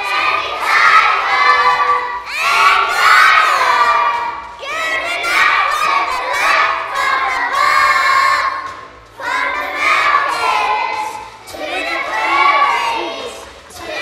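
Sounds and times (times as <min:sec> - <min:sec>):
children singing loudly: 0:00.0 - 0:14.0.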